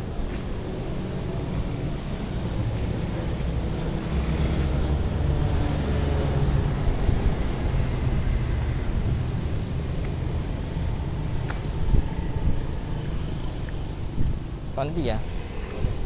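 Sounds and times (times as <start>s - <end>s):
motorbikes and cars passing: 0.0s - 16.0s.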